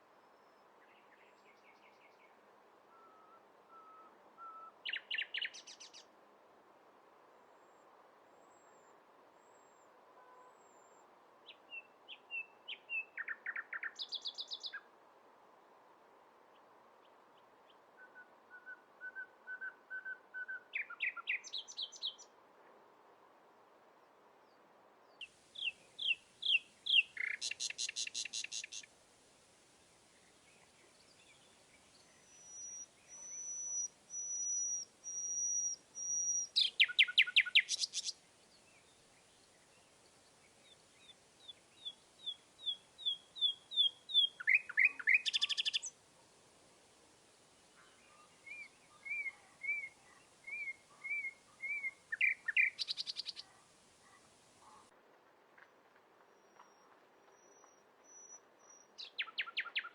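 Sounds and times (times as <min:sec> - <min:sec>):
songbird singing: 0:00.0 - 0:06.2, 0:07.4 - 0:15.0, 0:16.5 - 0:22.4, 0:24.0 - 0:54.9, 0:56.3 - 0:59.9.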